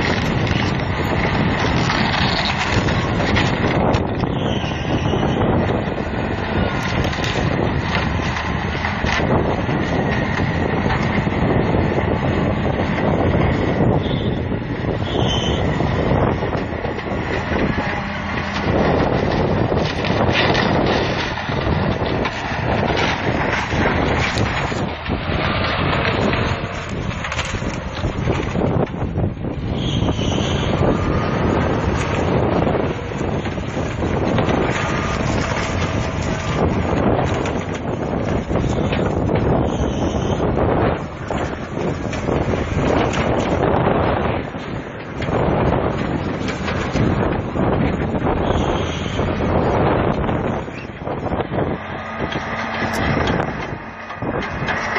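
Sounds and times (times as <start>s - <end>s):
diesel engine running: 0.0s - 54.9s
wind buffeting microphone: 0.0s - 54.9s.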